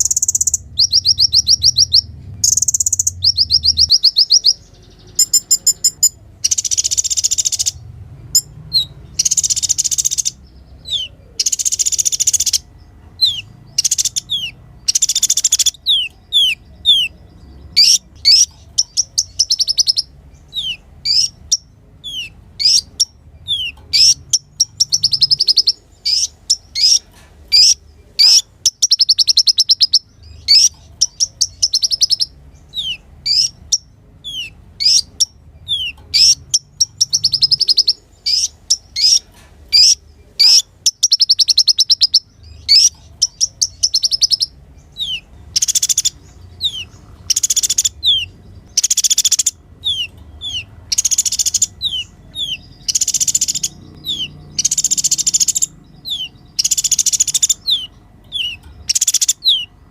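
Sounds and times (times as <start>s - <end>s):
sunbird singing trills: 0.0s - 59.9s.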